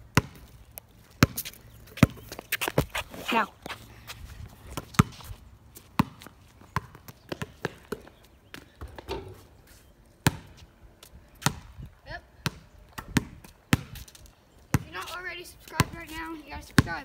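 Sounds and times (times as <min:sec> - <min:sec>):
basketball bouncing on concrete: 0:00.1 - 0:03.8, 0:04.6 - 0:09.5, 0:10.2 - 0:10.6, 0:11.4 - 0:14.1, 0:14.7 - 0:17.0.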